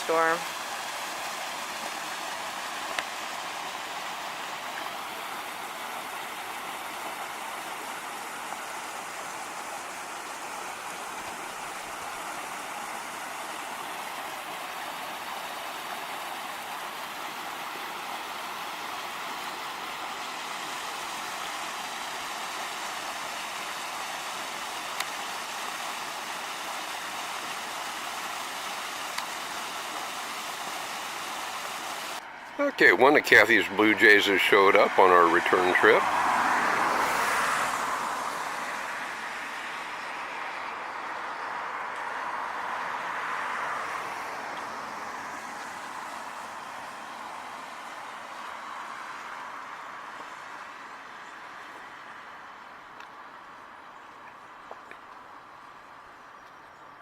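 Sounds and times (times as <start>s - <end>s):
stream waterfall rushing: 0.0s - 56.2s.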